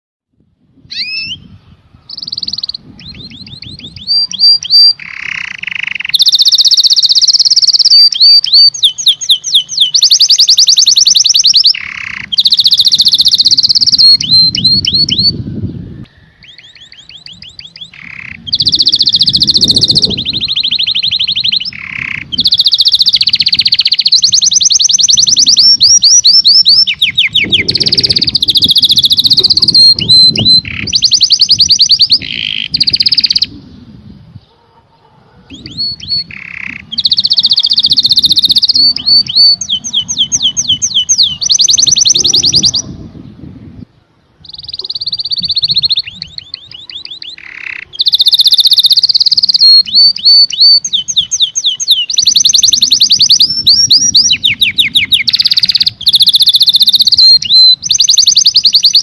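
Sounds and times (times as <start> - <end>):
canary singing: 0.9 - 33.6, 34.4 - 43.4, 44.4 - 59.0.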